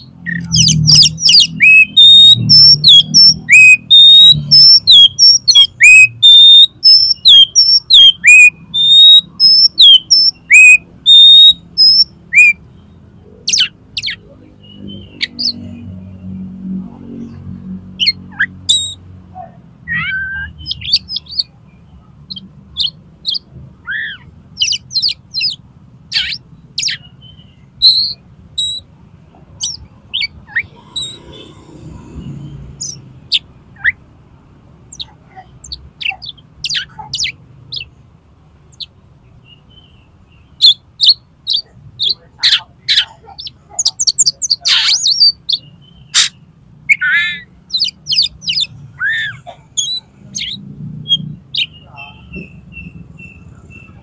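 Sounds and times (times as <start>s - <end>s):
magpie-robin song: 0.0s - 16.4s, 17.2s - 31.7s, 32.7s - 34.1s, 34.9s - 38.1s, 38.7s - 54.0s.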